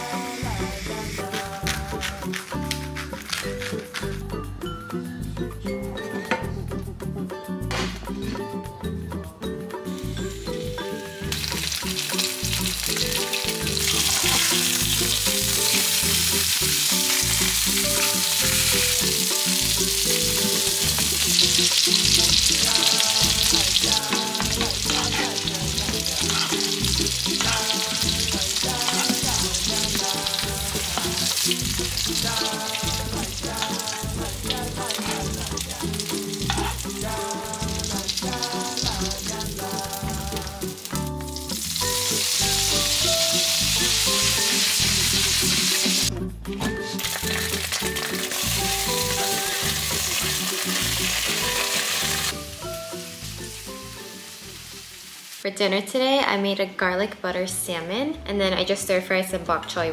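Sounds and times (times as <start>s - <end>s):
food sizzling in frying pan: 0.0s - 4.2s, 10.0s - 46.1s, 46.9s - 55.5s
background music: 0.0s - 59.9s.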